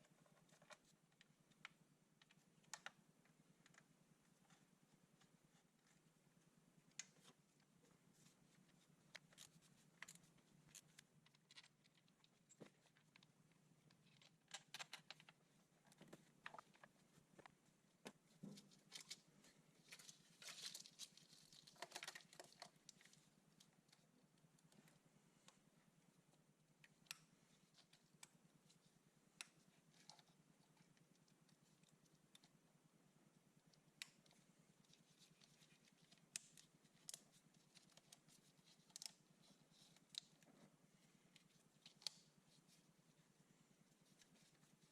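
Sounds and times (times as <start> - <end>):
faint low hum: 0.0 - 44.9.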